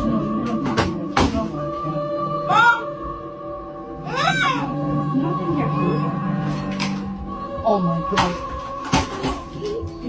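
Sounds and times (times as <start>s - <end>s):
music of sustained tones: 0.0s - 10.0s.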